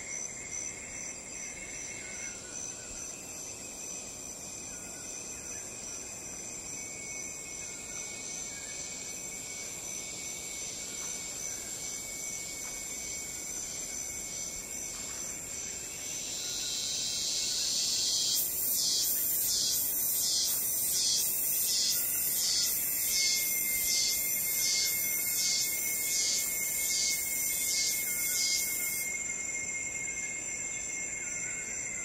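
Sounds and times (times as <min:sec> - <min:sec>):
crickets trilling: 0:00.0 - 0:32.0
pulsing high-pitched insect call: 0:00.0 - 0:32.0.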